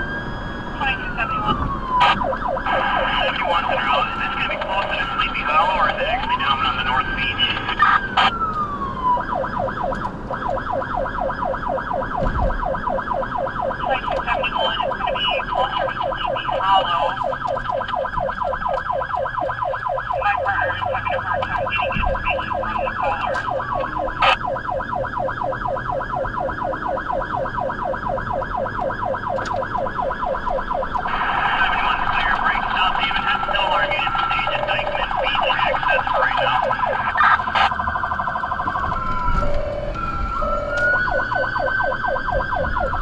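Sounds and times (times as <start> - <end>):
emergency siren wail and yelp: 0.0 - 43.0.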